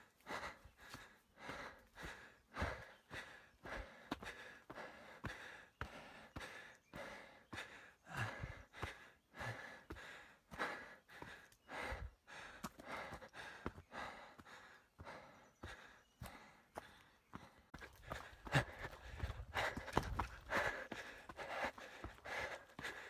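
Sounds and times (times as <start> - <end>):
person breathing: 0.1 - 23.0
footsteps on rocky dirt trail: 0.3 - 23.0.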